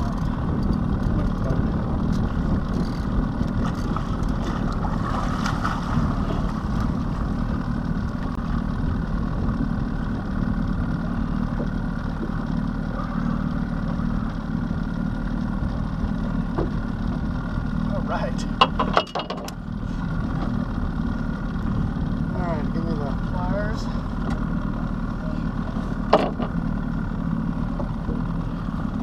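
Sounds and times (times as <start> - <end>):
outboard motor idling: 0.0 - 29.0.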